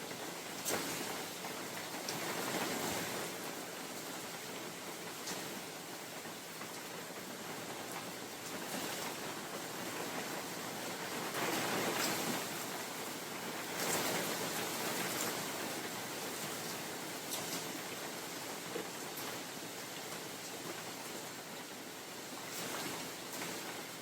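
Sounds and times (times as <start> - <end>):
rain falling on forest: 0.0 - 24.0
wind gusting through trees: 0.0 - 24.0.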